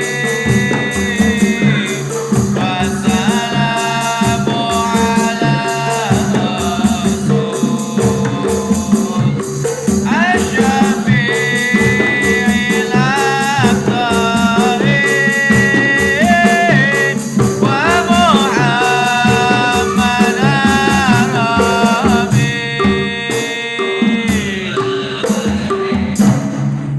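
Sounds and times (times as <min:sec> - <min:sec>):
rattle: 0:00.0 - 0:23.6
person singing ornamented phrases: 0:00.0 - 0:26.5
rhythmic percussion: 0:00.0 - 0:26.9.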